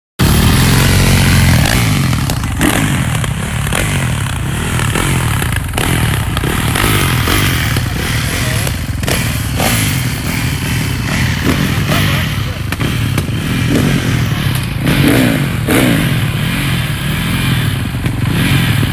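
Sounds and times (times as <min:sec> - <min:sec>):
dirt bike engines revving: 0:00.2 - 0:18.9.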